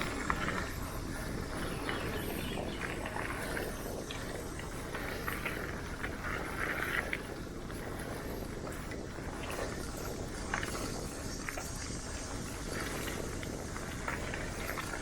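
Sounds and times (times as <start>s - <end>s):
bike rattles and clicks: 0.0s - 15.0s
wind on microphone: 0.0s - 15.0s.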